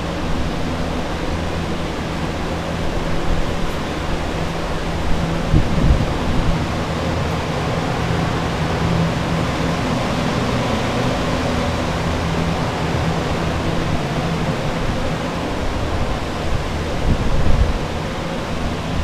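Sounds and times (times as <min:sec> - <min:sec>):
air movers blowing: 0:00.0 - 0:19.0
low motor hum: 0:00.0 - 0:19.0.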